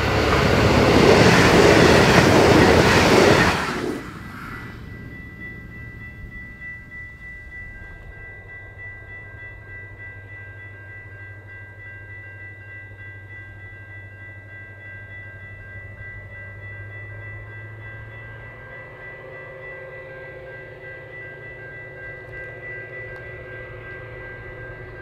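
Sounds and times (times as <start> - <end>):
diesel train engine drone: 0.0 - 25.0
steady high whine: 0.0 - 25.0.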